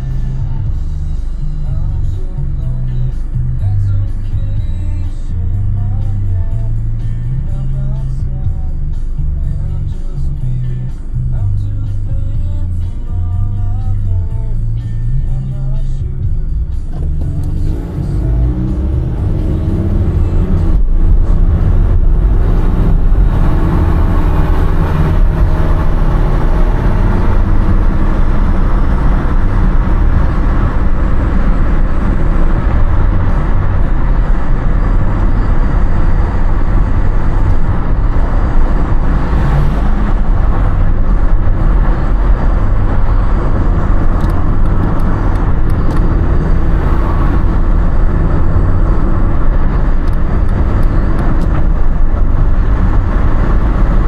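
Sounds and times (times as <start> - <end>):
car driving on road: 0.0 - 54.0.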